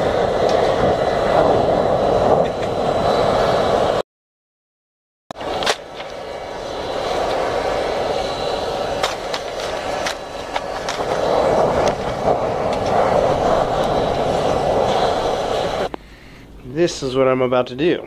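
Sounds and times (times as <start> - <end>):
fire crackles and pops: 0.0 - 4.0, 5.3 - 16.0
fire rushing: 0.0 - 4.0, 5.3 - 16.0.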